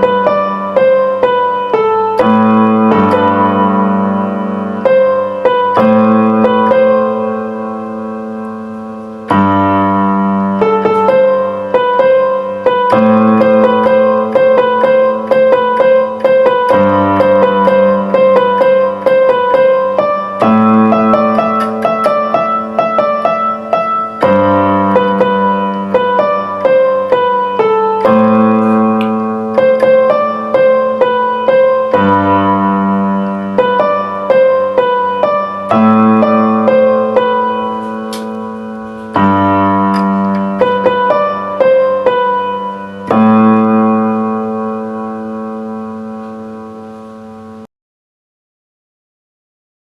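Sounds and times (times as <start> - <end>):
solo piano playing: 0.0 - 47.7.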